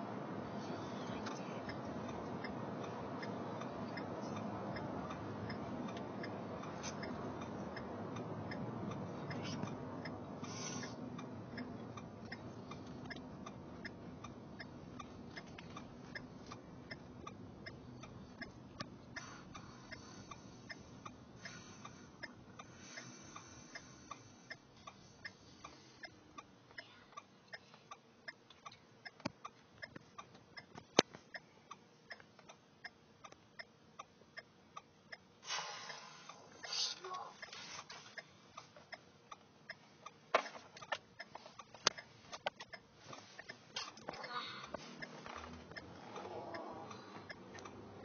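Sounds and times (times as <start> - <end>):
turn-signal indicator ticking: 1.0 - 48.0.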